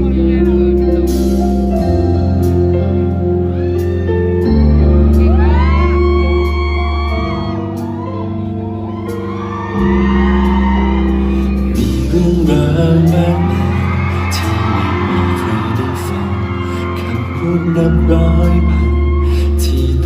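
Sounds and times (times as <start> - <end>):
live band brass and wind chords: 0.0 - 20.0
audience screaming and cheering: 0.7 - 20.0.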